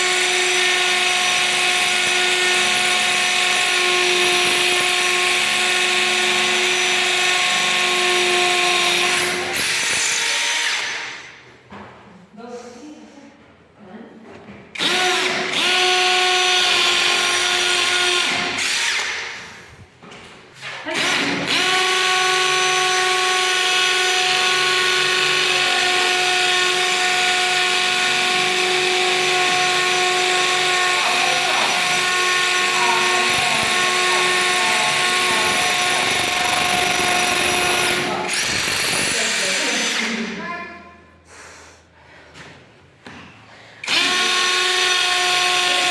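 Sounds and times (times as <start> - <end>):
impact drill motor whining: 0.0 - 11.3, 14.8 - 19.8, 20.9 - 40.5, 43.8 - 45.9.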